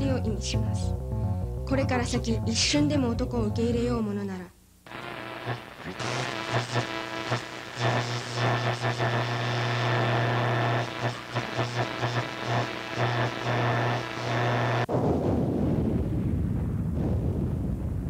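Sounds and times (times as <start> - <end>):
loud low hum: 0.0 - 4.0, 4.9 - 16.7.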